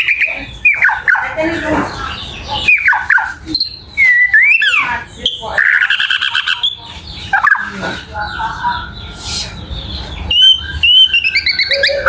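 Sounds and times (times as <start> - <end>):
songbird whistling: 0.0 - 1.2, 2.5 - 7.7, 8.7 - 12.0.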